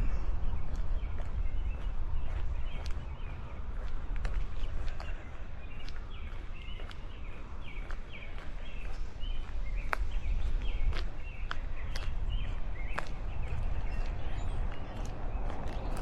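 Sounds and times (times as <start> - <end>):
birds chirping: 0.0 - 16.0
footsteps on pavement: 0.0 - 16.0
wind buffeting microphone: 0.0 - 16.0.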